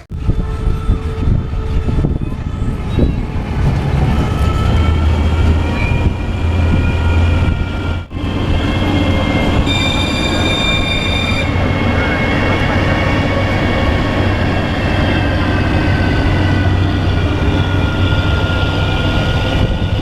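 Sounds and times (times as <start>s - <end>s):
ride vehicle rumbling on track: 0.0s - 20.0s
wheels squealing: 0.0s - 20.0s.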